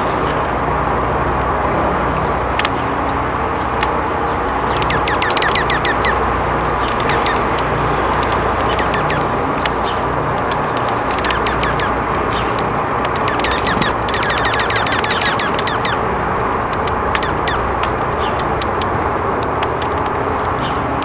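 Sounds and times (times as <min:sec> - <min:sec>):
songbirds chirping: 0:00.0 - 0:21.0
steady background rumble: 0:00.0 - 0:21.0.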